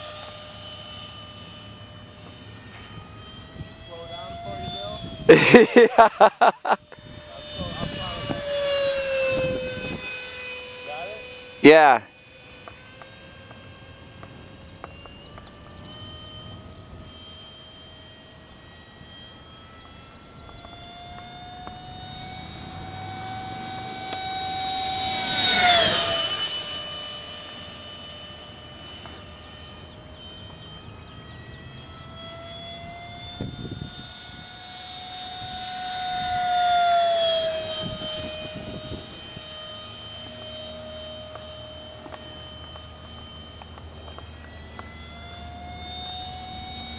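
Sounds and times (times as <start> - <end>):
model jet ducted fan whining: 0.0 - 46.9.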